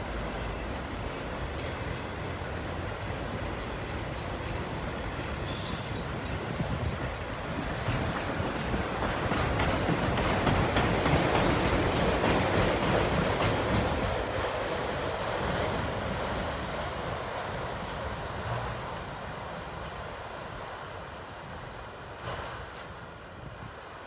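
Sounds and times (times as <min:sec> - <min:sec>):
freight train rolling on rails: 0:00.0 - 0:24.0.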